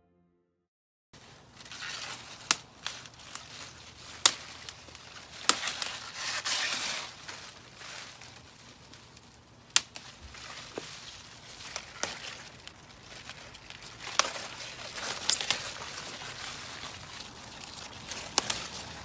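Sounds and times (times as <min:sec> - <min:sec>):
kale stems snapping: 0:01.2 - 0:19.0
leaves rustling: 0:01.2 - 0:19.0.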